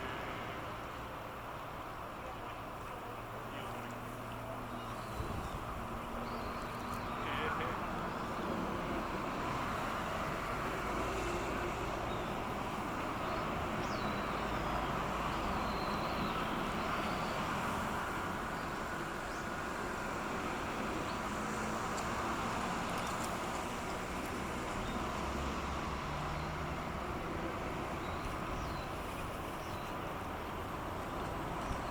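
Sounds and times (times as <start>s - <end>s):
noisy rush of water: 0.0s - 31.9s.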